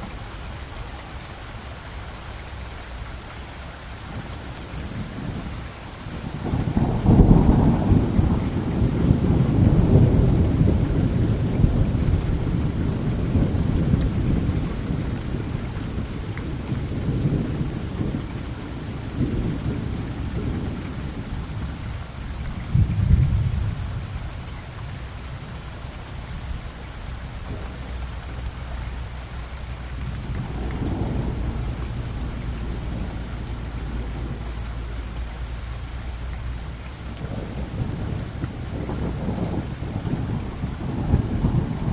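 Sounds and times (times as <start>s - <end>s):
rain falling: 0.0s - 41.9s
thunder rumbling: 0.0s - 41.9s.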